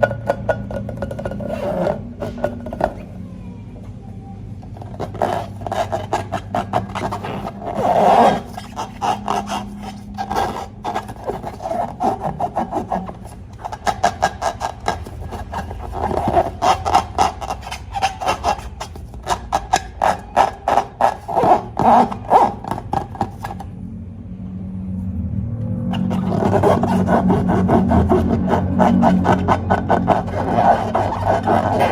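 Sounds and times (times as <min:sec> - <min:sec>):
scraping and rubbing strokes: 0:00.0 - 0:03.1, 0:04.8 - 0:23.7, 0:25.8 - 0:31.9.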